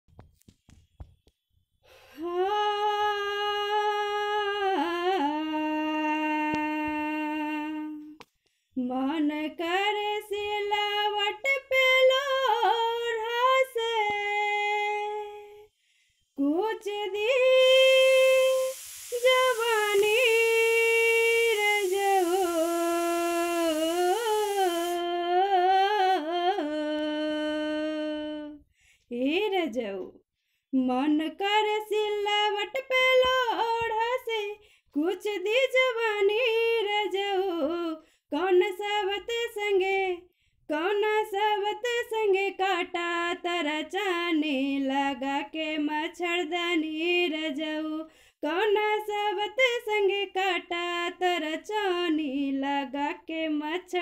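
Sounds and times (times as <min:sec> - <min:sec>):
woman singing unaccompanied: 0:02.2 - 0:08.2, 0:08.8 - 0:15.7, 0:16.4 - 0:54.0.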